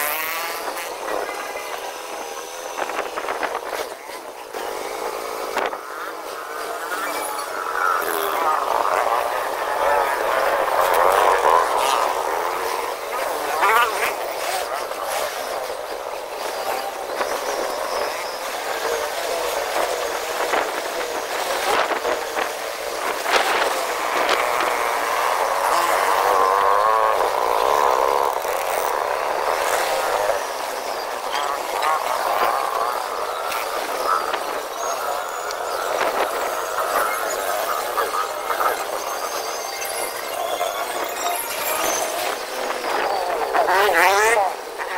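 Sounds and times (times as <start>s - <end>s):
small motorcycle engine running: 0.0s - 44.9s
wind noise: 0.0s - 44.9s.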